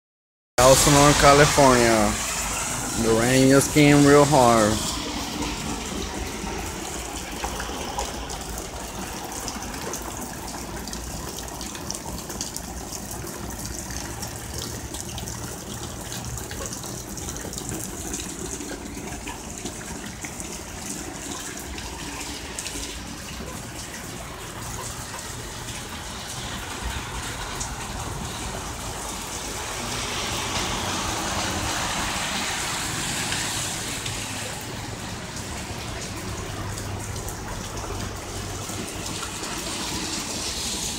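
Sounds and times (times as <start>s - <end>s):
bus passing on wet street: 0.6s - 40.9s
heavy rain pouring: 0.6s - 40.9s
water running off roof edge: 0.6s - 40.9s.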